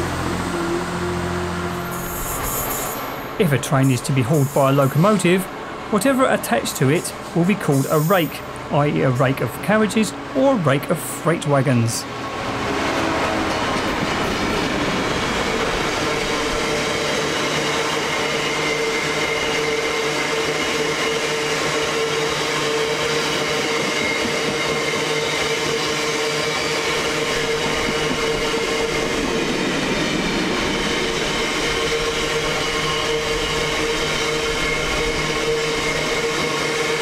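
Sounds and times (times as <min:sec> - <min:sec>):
freight train rolling past: 0:00.0 - 0:37.0.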